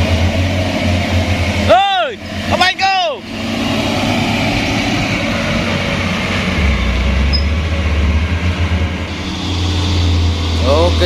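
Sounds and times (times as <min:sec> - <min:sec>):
diesel truck engine droning: 0:00.0 - 0:11.0.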